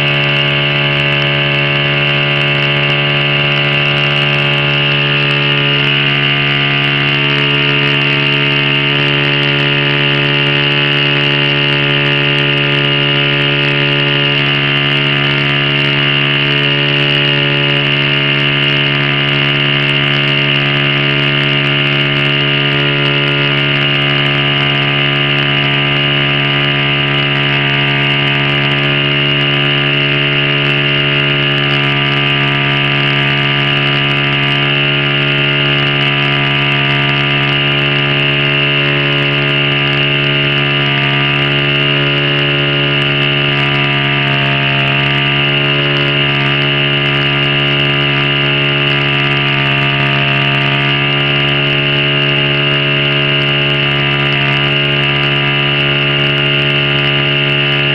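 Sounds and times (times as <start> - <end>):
model plane engine running: 0.0 - 57.9.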